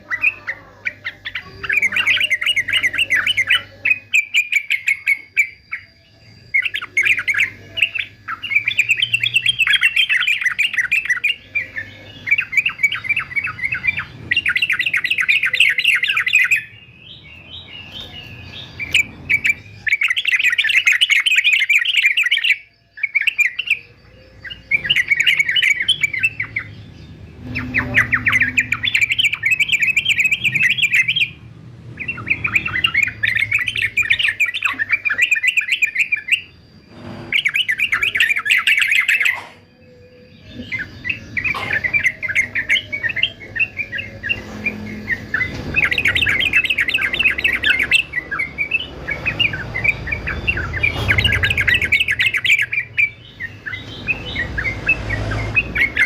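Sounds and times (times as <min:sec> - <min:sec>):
bulbul chattering song: 0:00.0 - 0:56.0.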